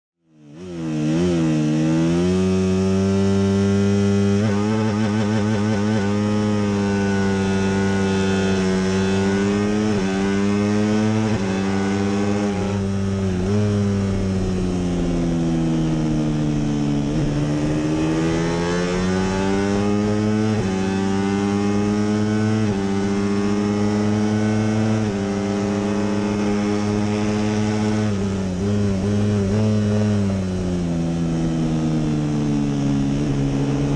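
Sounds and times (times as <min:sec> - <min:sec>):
racing motorcycle engine revving: 0:00.3 - 0:33.9.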